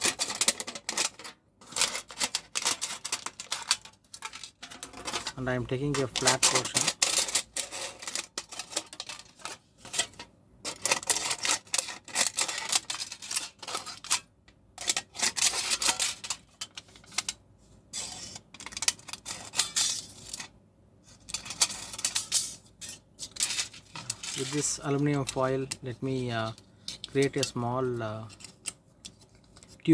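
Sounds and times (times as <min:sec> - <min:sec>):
aluminium foil crinkling: 0:00.0 - 0:17.4, 0:18.0 - 0:20.5, 0:21.2 - 0:29.9.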